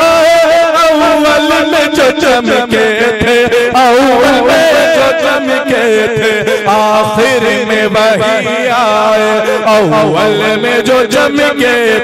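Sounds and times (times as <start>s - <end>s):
man singing through a microphone: 0.0s - 12.0s.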